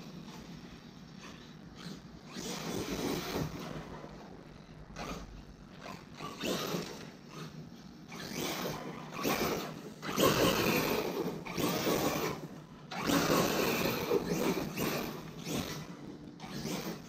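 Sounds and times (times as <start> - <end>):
electric motor whining: 1.2 - 17.0.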